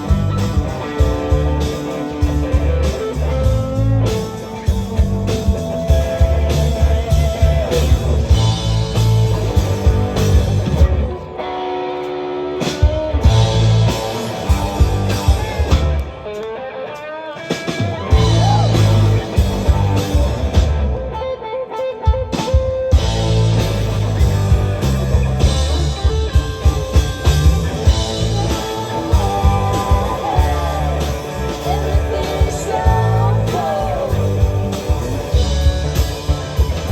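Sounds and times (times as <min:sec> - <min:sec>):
bass and drums: 0:00.0 - 0:11.4, 0:12.6 - 0:16.5, 0:17.4 - 0:21.4, 0:22.0 - 0:36.9
rock guitar: 0:00.0 - 0:36.9.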